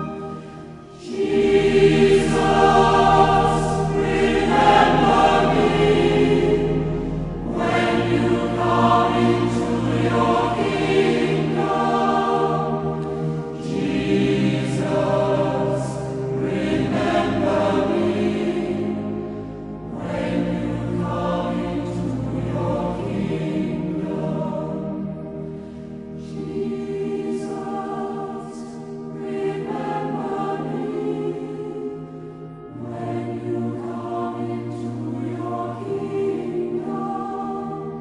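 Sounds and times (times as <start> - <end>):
choir singing a slow chant: 0.0 - 38.0.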